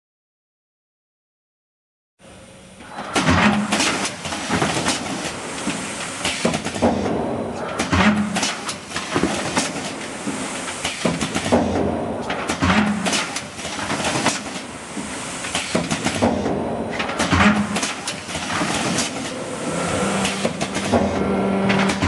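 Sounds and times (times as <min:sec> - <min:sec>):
machine clattering and knocking: 0:02.8 - 0:22.0.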